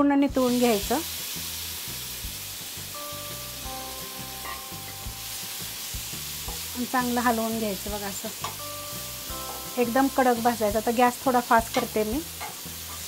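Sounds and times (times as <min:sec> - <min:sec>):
fish sizzling in hot oil: 0:00.3 - 0:13.0.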